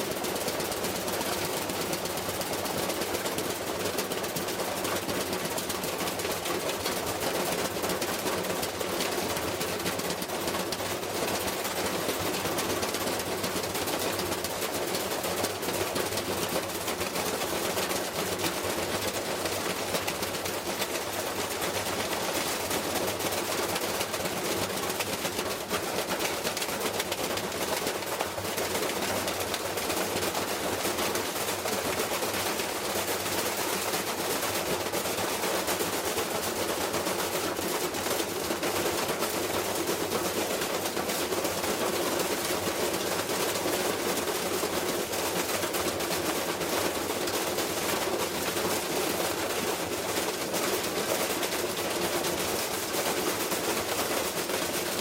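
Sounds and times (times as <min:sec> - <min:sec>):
washing machine rattling and knocking: 0:00.0 - 0:55.0.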